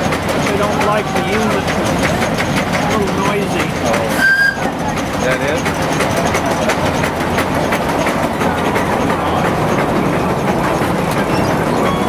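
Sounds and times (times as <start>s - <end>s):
rapid mechanical ticks: 0.0s - 11.9s
steam engine clattering: 0.0s - 12.0s.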